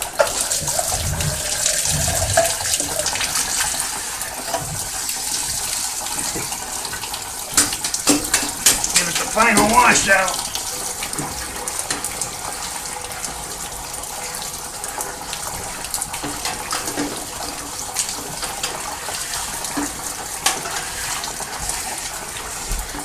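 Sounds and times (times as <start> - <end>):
water splashes: 0.0 - 23.0
water spraying with rushing hiss: 0.0 - 23.0.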